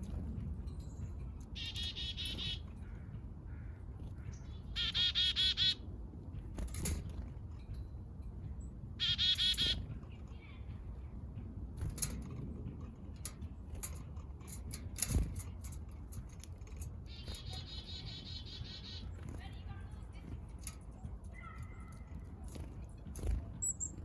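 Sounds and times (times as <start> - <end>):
low steady rumble: 0.0 - 24.0
songbirds buzzy calls: 1.4 - 7.1, 8.5 - 11.2, 13.1 - 24.0.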